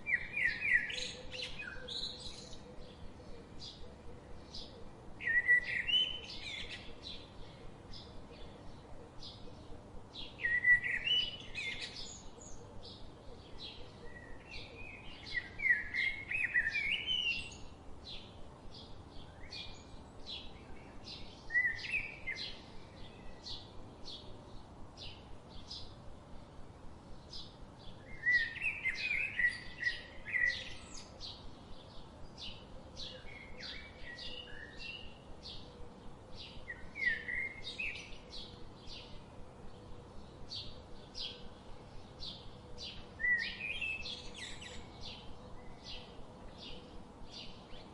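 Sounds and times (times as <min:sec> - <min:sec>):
bird warbling song: 0:00.0 - 0:26.0, 0:27.2 - 0:47.9
faint background noise: 0:00.0 - 0:47.9.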